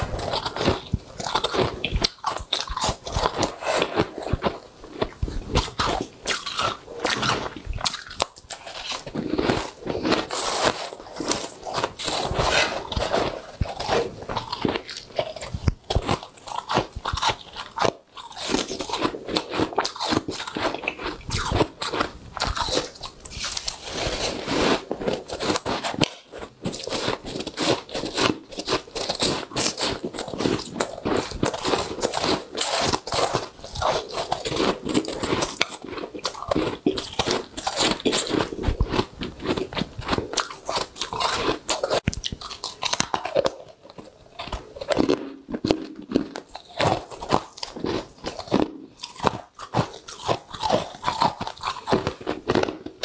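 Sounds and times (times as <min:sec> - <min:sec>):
chewing crunchy frost: 0:00.0 - 0:53.0.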